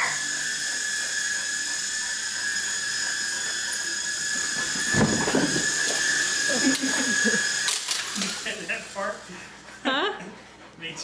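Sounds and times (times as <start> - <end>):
toy helicopter motor whining: 0.0 - 10.0.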